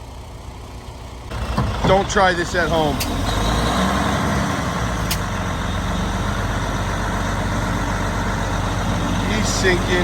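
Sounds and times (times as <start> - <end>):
diesel truck engine under load: 0.0 - 10.0.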